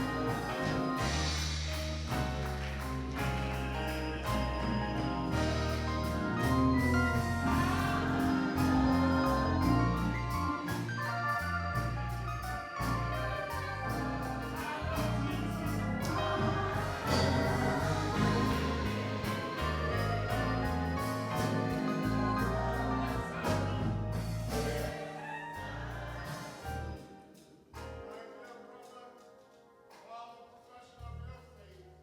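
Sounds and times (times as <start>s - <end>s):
church organ playing chords: 0.0s - 27.0s.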